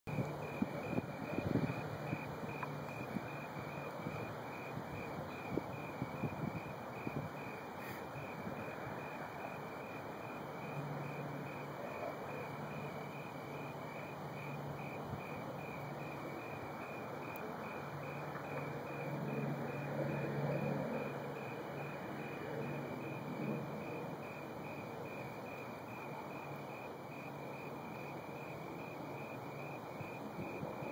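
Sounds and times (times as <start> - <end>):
crickets chirping: 0.1 - 30.9.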